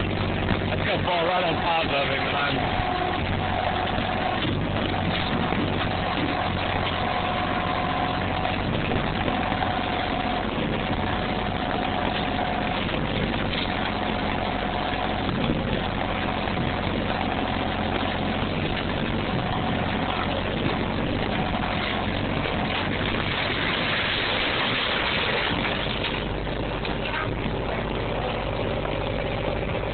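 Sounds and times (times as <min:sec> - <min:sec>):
diesel engine running: 0:00.0 - 0:29.9
high hydraulic whine: 0:00.0 - 0:29.9.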